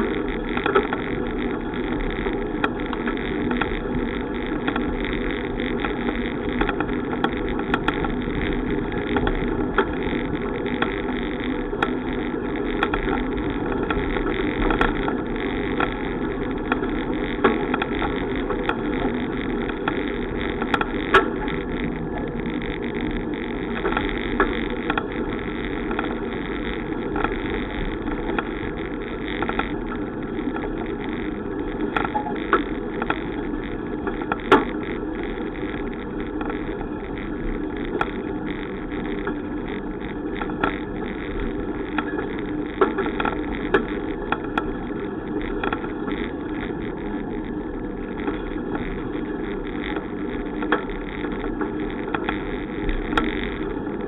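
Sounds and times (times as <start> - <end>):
sharp clicks and knocks: 0.0 - 54.0.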